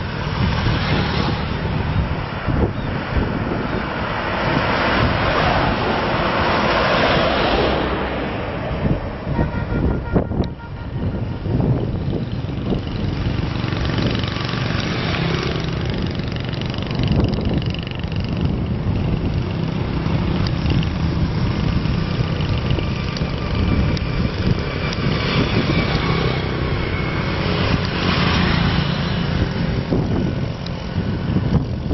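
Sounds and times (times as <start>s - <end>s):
motorbike engines passing: 0.0s - 31.9s
steady rushing noise: 0.0s - 31.9s.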